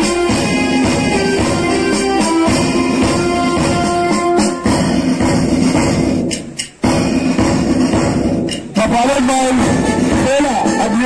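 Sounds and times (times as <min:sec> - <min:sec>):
music with jingling percussion: 0:00.0 - 0:11.0.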